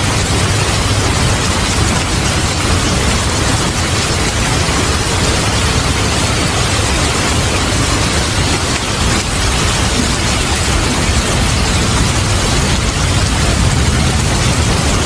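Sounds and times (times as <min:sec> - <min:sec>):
heavy rain: 0:00.0 - 0:15.0
thunder rumble: 0:00.0 - 0:15.0.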